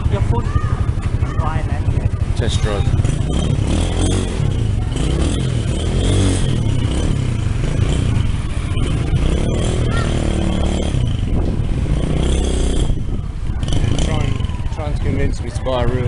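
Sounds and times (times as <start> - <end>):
small motorbike engine revving: 0.7 - 14.7.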